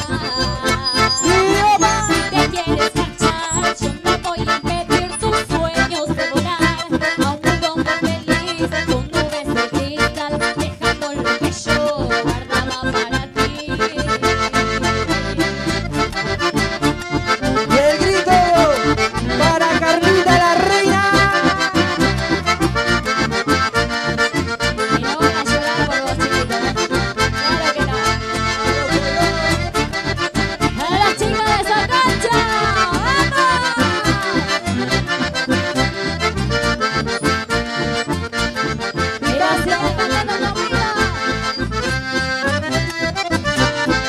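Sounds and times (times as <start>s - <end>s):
accordion music with steady beat: 0.0s - 44.0s.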